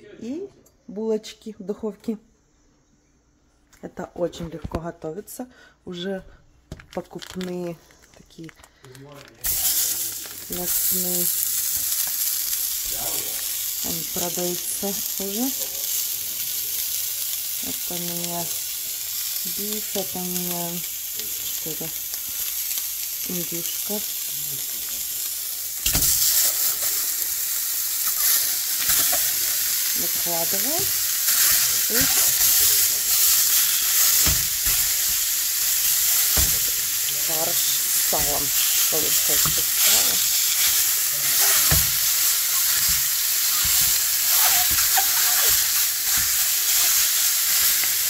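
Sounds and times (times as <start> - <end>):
pan sizzling: 9.4 - 48.0.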